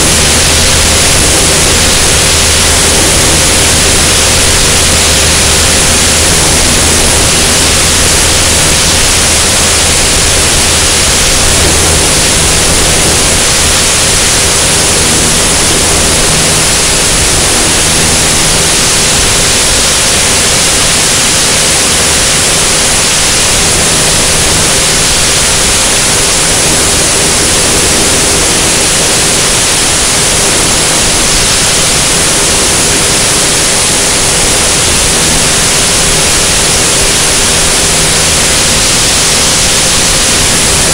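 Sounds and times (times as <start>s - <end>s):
airflow rushing over camera: 0.0s - 40.9s
propeller engine drone: 0.0s - 40.9s.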